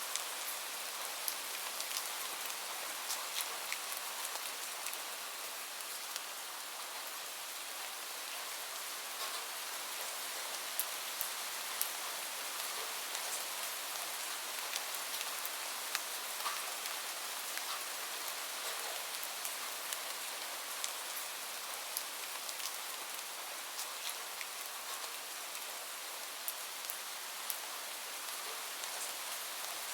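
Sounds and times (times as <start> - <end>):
rain hiss: 0.0 - 29.9.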